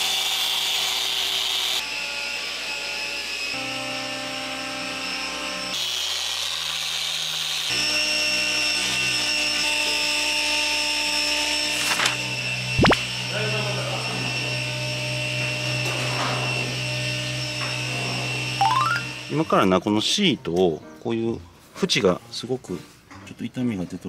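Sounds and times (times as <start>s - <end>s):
electric polisher running: 0.0s - 19.4s.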